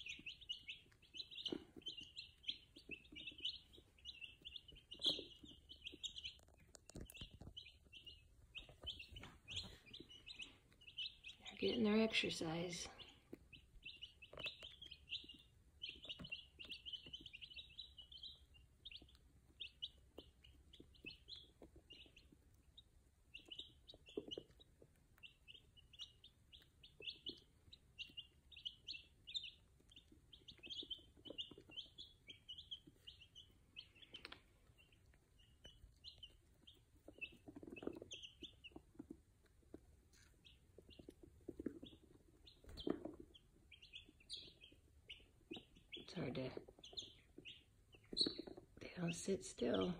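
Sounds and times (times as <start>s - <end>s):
baby chicks peeping: 0.0s - 49.9s.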